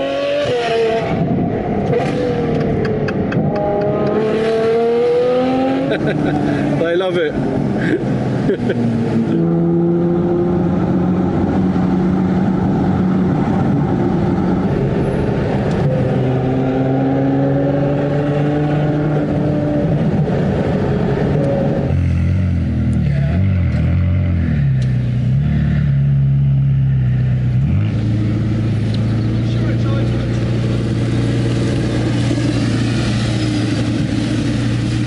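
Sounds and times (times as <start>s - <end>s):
sports car engine revving: 0.0s - 35.0s.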